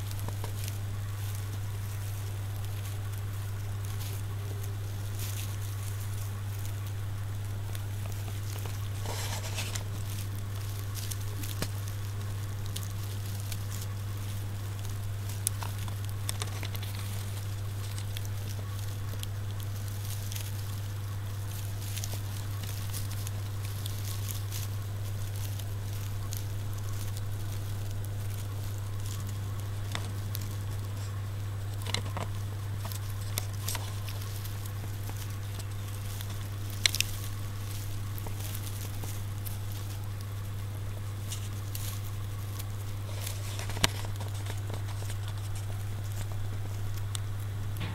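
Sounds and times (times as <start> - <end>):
kittens scratching and pattering: 0.0 - 47.9
steady low hum: 0.0 - 47.9.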